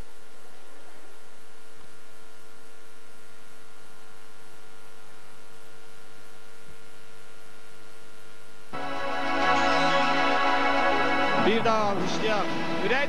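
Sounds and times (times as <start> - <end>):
electrical mains hum and hiss: 0.0 - 13.0.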